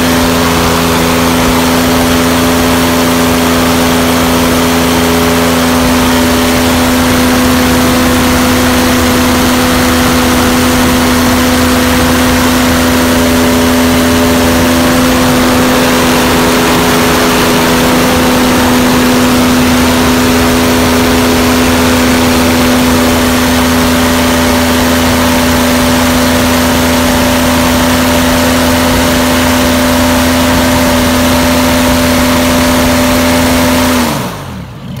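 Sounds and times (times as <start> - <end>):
aircraft engine at full power: 0.0 - 35.0.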